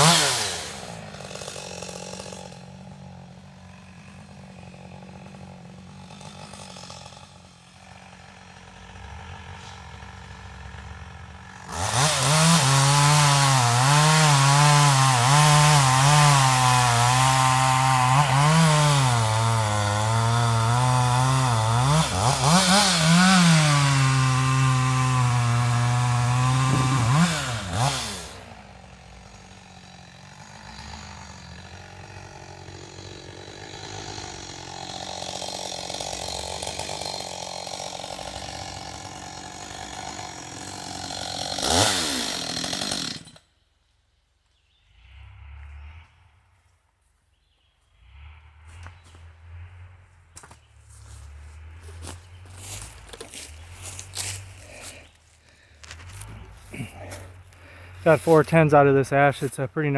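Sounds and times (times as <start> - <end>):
chainsaw cutting log: 0.0 - 43.5, 48.0 - 59.9.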